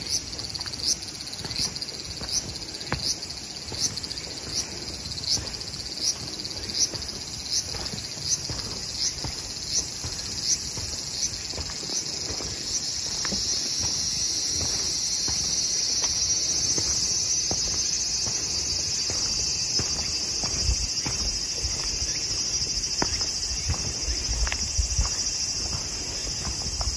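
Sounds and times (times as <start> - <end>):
insect high chirp: 0.0 - 26.9.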